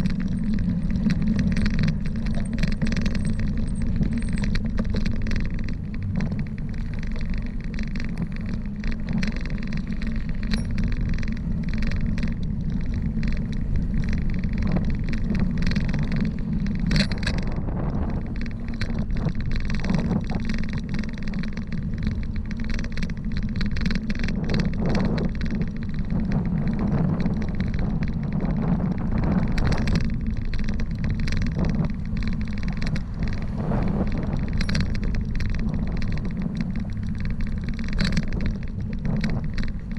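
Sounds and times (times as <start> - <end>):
bike rattling and knocking: 0.0 - 39.9
wind rushing over microphone: 0.0 - 39.9.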